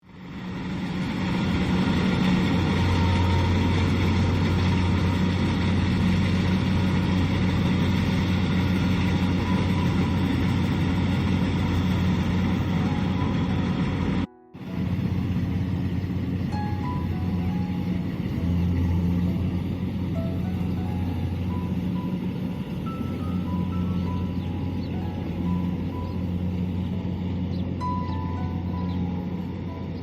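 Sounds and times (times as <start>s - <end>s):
diesel engine running steadily: 0.0s - 30.0s.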